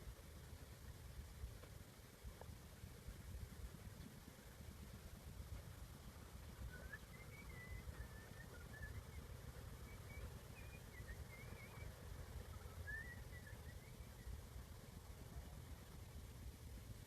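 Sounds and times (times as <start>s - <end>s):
low wind rumble: 0.0s - 17.0s
faint bird chirping: 3.0s - 17.0s.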